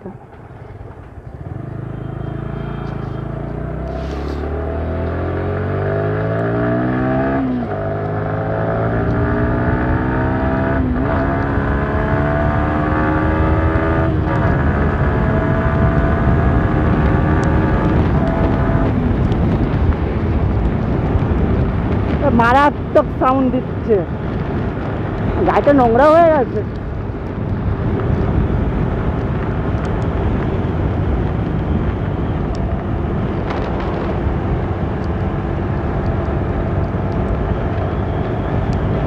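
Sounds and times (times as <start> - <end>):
motorcycle engine accelerating: 0.2 - 39.0
wind rush: 6.7 - 39.0.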